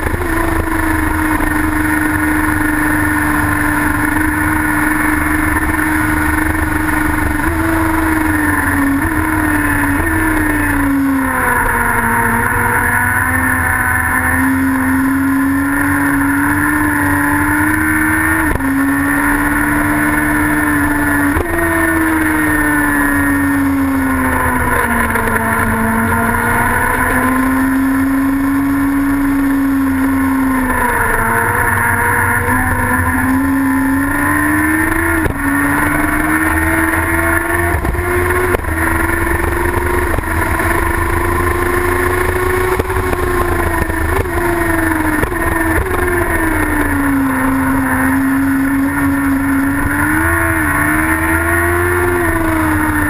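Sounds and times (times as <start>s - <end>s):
racing engine running hard: 0.0s - 53.0s.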